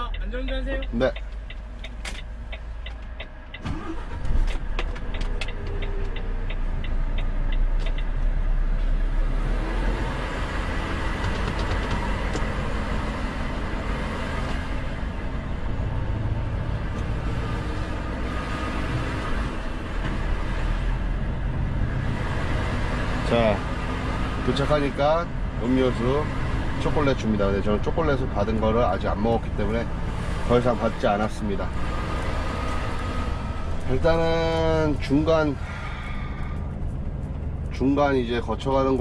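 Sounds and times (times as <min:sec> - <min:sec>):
diesel truck engine rumbling: 0:00.0 - 0:39.0.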